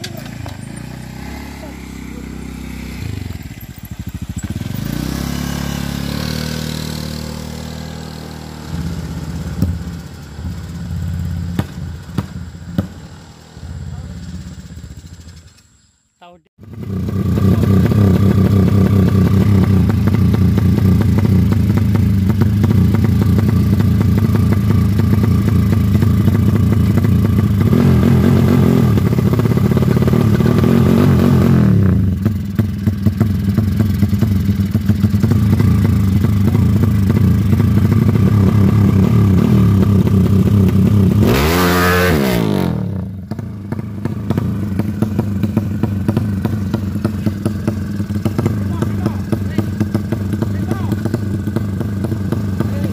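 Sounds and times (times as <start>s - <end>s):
motorcycle engine revving: 0.0s - 15.8s, 16.6s - 52.9s.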